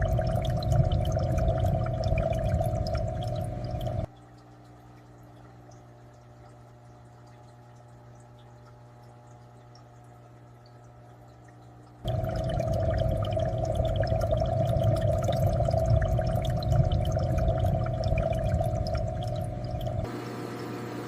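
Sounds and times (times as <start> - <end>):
aquarium water bubbling: 0.0 - 21.0.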